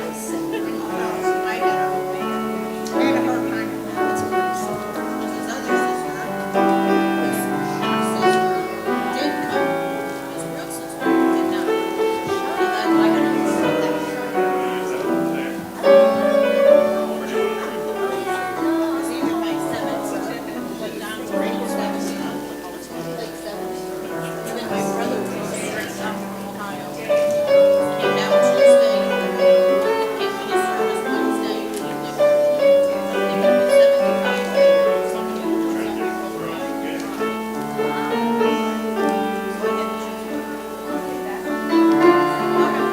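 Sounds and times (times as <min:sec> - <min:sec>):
slow keyboard music: 0:00.0 - 0:42.9.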